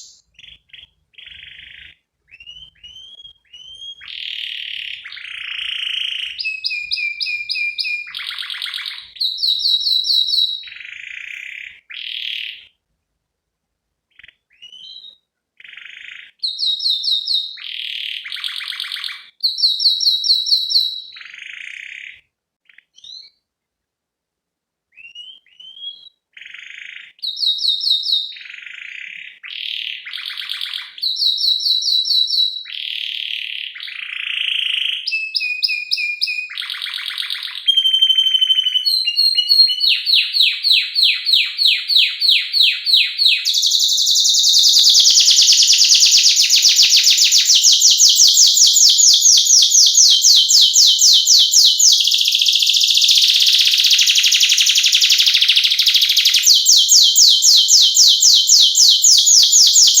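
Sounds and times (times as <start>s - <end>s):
canary singing: 0.0s - 12.8s, 14.1s - 23.4s, 24.9s - 60.0s.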